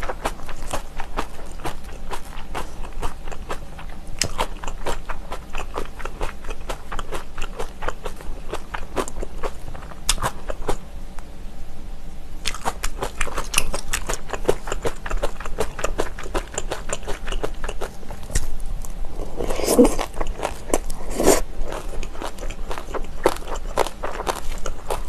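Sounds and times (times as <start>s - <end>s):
wet crunchy chewing: 0.0s - 10.8s, 12.4s - 25.0s.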